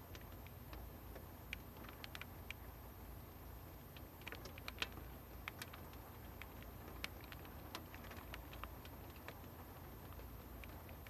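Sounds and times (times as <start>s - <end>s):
faint steady hiss: 0.0s - 11.0s
raindrops ticking: 0.0s - 11.0s.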